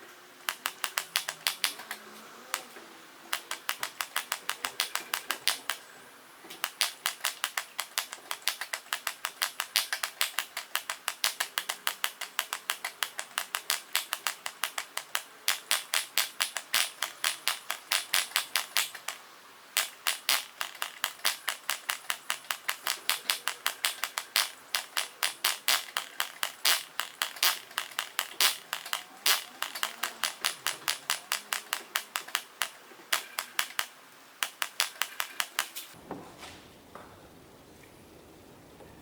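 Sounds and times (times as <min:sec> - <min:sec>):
model engine cranking clicks: 0:00.4 - 0:05.9, 0:06.5 - 0:36.0.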